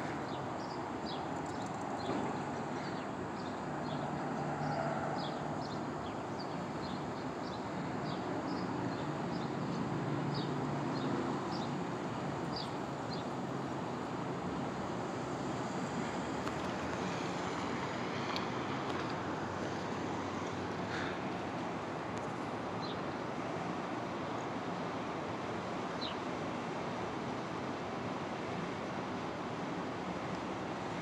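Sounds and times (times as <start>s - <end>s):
street traffic hum: 0.0s - 31.0s.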